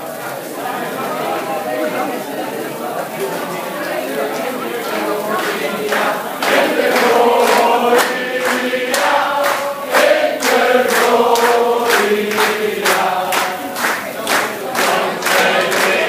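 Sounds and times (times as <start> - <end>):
group singing: 0.4 - 16.0.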